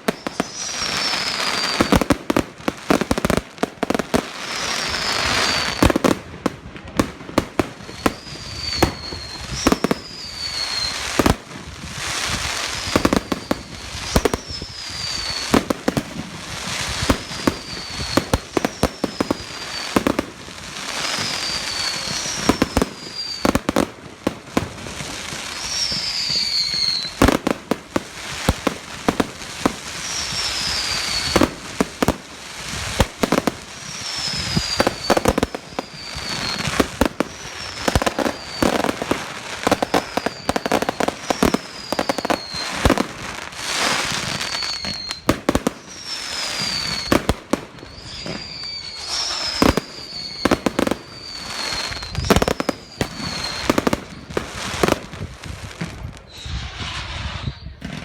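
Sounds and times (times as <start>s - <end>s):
falling firework whistle: 0.0s - 58.0s
fireworks bangs and crackling: 0.0s - 58.0s.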